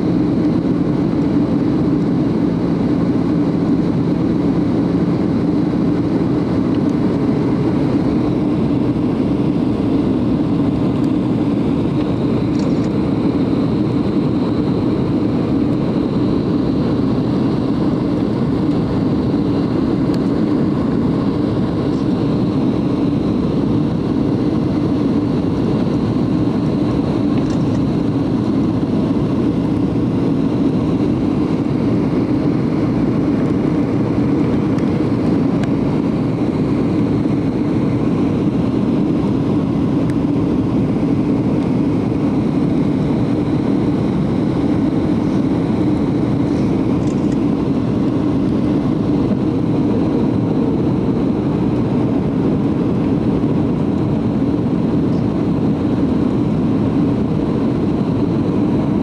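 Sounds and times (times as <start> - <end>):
airplane cabin low rumble: 0.0 - 59.0.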